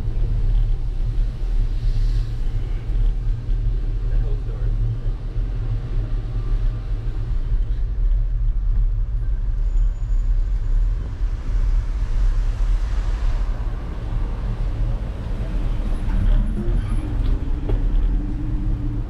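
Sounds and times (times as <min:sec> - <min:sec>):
tyre and road noise: 0:00.0 - 0:19.0
wind rumble on microphone: 0:00.0 - 0:19.0.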